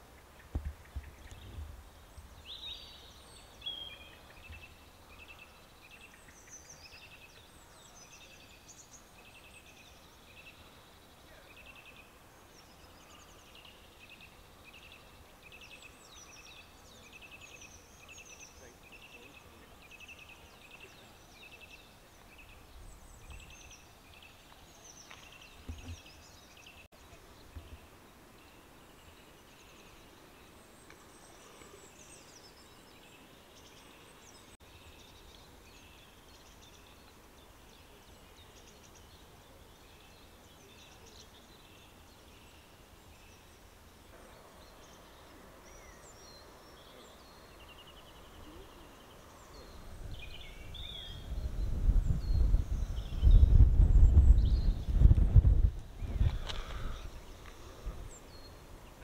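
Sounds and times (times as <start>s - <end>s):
background hiss: 0.0s - 59.0s
birds chirping: 0.0s - 59.0s.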